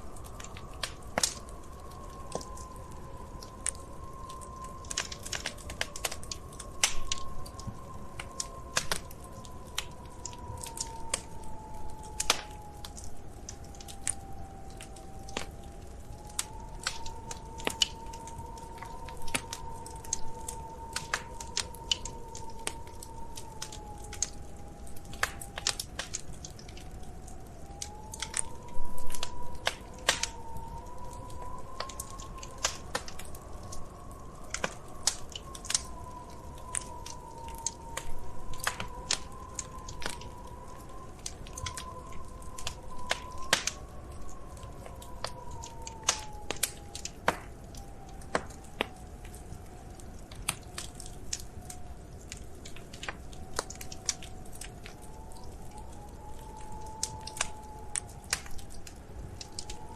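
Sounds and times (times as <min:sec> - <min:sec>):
soft steady drifting tone: 0:00.0 - 0:59.9
wood fire crackling and popping: 0:00.0 - 0:59.9.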